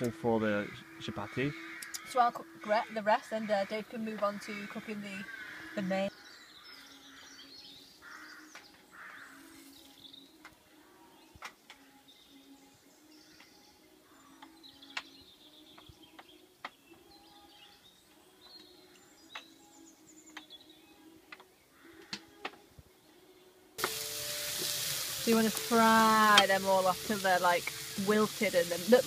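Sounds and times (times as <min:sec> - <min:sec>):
birds chirping: 0:00.0 - 0:22.4, 0:23.8 - 0:29.0.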